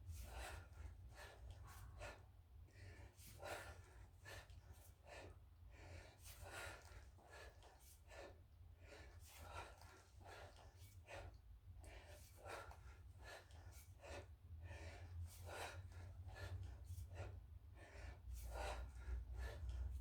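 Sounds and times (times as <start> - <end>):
person breathing rhythmically: 0.1 - 20.0.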